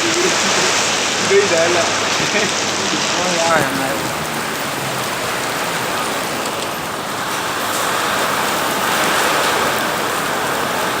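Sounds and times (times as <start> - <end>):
rain pouring down: 0.0 - 11.0.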